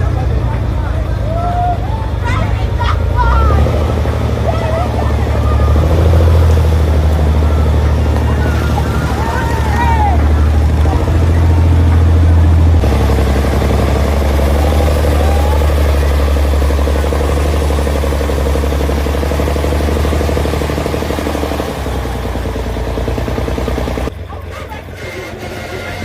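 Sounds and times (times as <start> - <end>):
large engine running low revs: 0.0 - 26.0.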